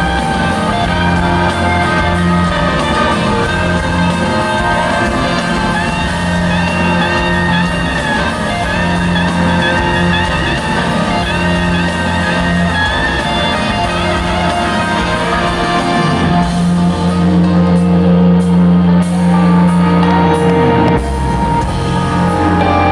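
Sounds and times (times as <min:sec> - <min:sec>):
live rock band playing: 0:00.0 - 0:22.9.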